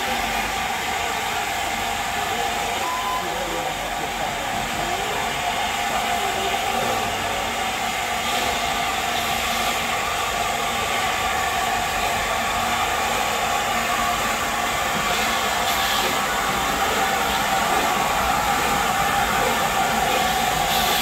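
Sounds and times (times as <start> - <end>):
steam locomotive hissing steam: 0.0 - 21.0.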